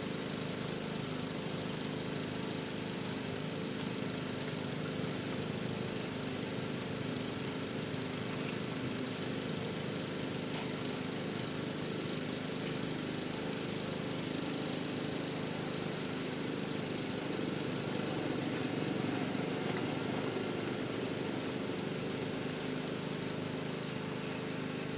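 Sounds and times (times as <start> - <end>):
small engine running: 0.0 - 24.9.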